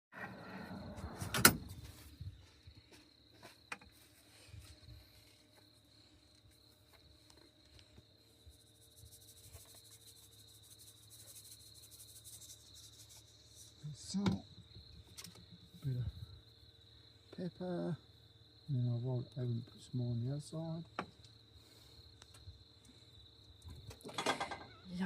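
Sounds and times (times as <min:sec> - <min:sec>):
crickets chirping: 0:00.2 - 0:25.0.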